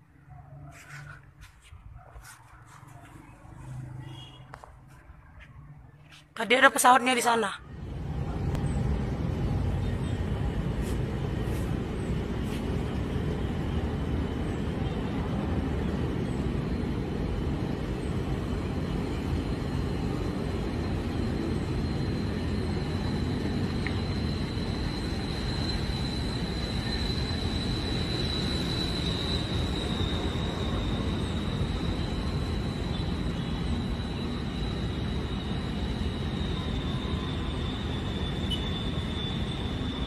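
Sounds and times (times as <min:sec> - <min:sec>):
faint high whine: 0:03.1 - 0:40.0.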